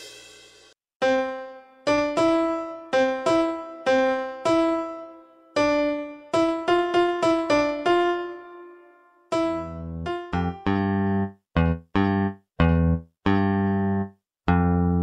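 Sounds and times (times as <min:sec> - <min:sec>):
electronic keyboard piano tune: 0:01.0 - 0:14.0.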